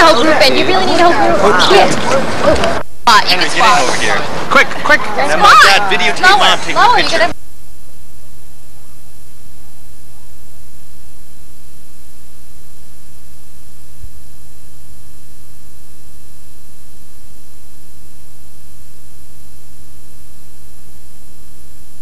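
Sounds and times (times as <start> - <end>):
videotape hum and buzz: 0.0 - 22.0.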